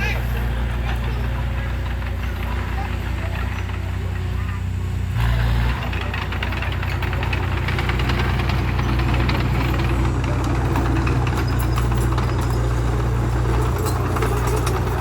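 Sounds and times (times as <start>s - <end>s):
heavy diesel engine clattering: 0.0s - 15.0s.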